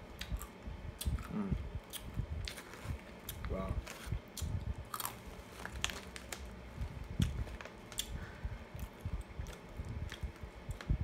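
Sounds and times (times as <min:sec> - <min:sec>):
person chewing nuts: 0:00.2 - 0:11.0.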